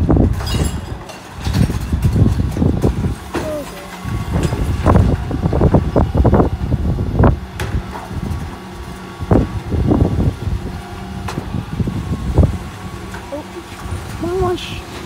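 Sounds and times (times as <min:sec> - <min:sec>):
truck engine and hydraulics hum: 0:00.0 - 0:15.0.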